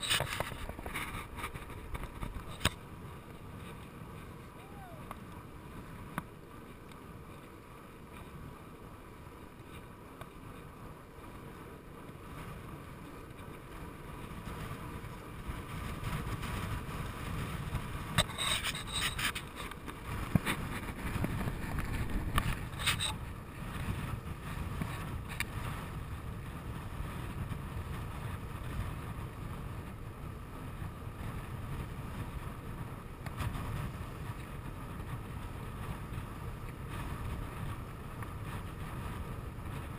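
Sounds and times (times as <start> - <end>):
wind rushing over microphone: 0.0 - 7.4, 8.0 - 39.9
bicycle tyre rumble on asphalt: 0.0 - 39.9.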